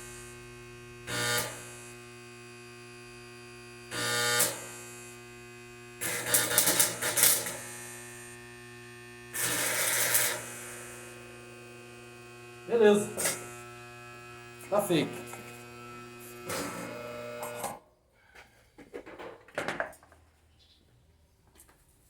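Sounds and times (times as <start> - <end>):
welder electrical hum: 0.0 - 17.8
welding arc crackling buzz: 0.0 - 17.8.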